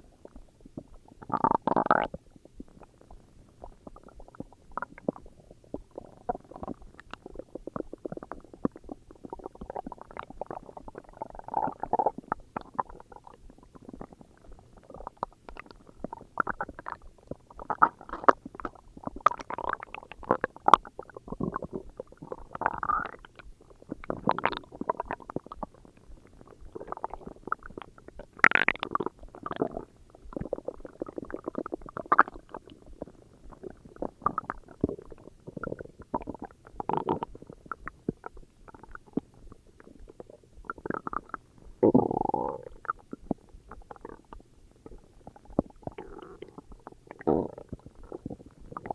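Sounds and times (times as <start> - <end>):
stomach growling: 0.0 - 48.9.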